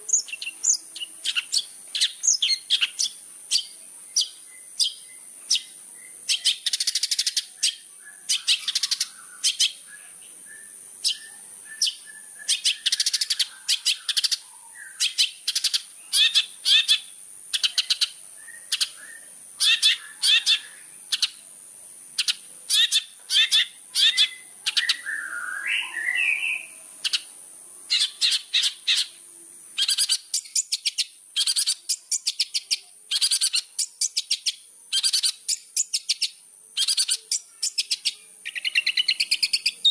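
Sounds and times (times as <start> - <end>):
bird chattering and trilling: 0.0 - 21.5, 22.1 - 29.2, 29.8 - 39.9
high hiss: 0.0 - 39.9.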